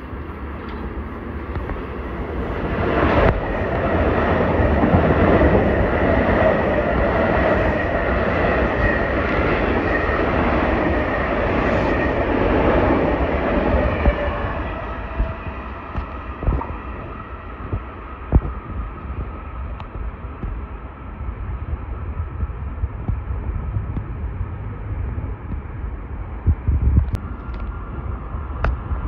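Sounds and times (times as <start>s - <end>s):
electric train rushing past: 0.0s - 29.0s.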